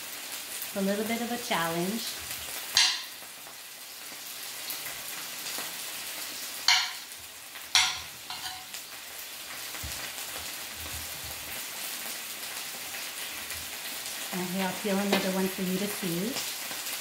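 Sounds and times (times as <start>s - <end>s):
meat and vegetables sizzling: 0.0s - 17.0s.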